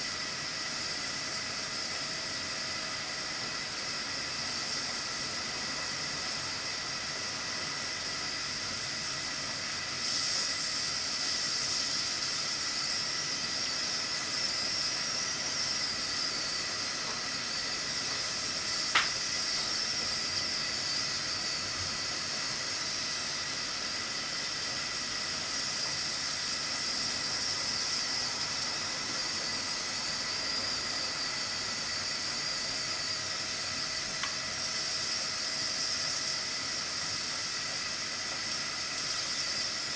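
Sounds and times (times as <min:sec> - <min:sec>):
pressure cooker steam hissing: 0:00.0 - 0:39.9.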